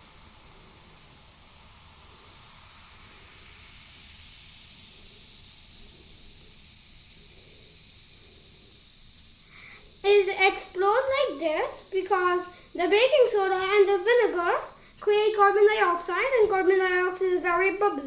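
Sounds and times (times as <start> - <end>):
baking soda and vinegar fizzing: 0.0 - 18.0.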